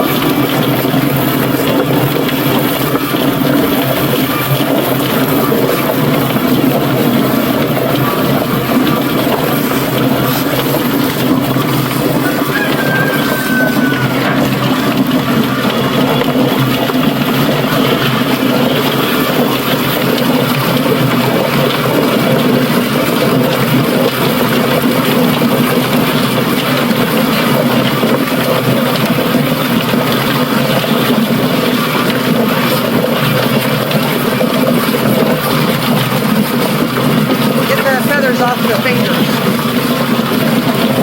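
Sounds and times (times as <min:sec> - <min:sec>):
motor hum: 0:00.0 - 0:41.0
water splashing and slapping: 0:00.0 - 0:41.0.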